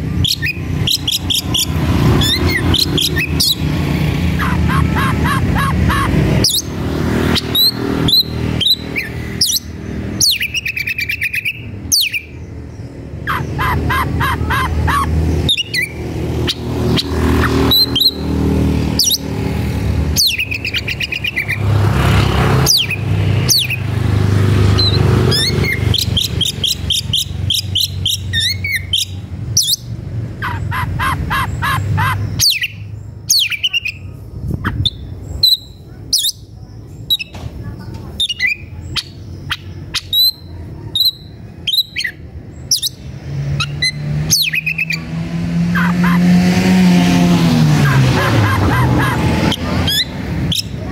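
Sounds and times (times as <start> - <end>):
songbird singing chirps and trills: 0.0 - 45.2.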